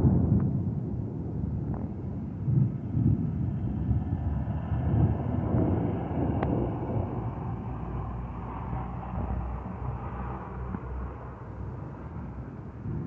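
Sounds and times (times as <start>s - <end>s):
rolling thunder: 0.0s - 13.0s.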